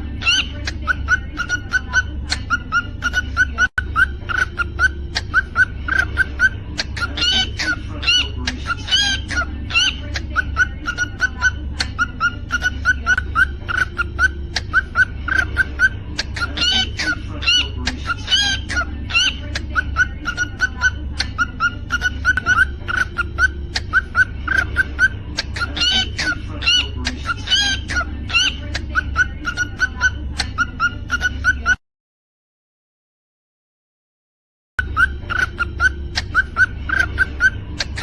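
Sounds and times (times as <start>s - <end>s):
cockatiel chirping: 0.2s - 31.8s, 34.8s - 38.0s
cockatiel whistling: 1.1s - 31.8s, 34.8s - 38.0s.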